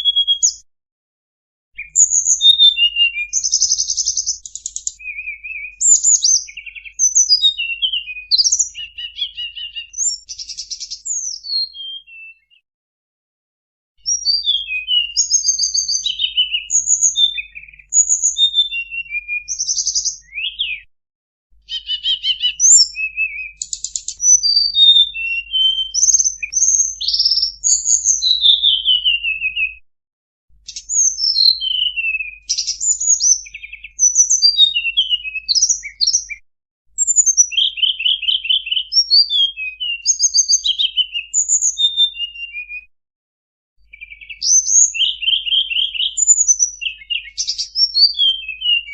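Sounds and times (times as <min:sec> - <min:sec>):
recorded songbird chirps and trills: 0:00.0 - 0:00.6, 0:01.8 - 0:12.6, 0:14.0 - 0:20.9, 0:21.6 - 0:29.8, 0:30.6 - 0:36.4, 0:37.0 - 0:42.9, 0:43.8 - 0:48.9.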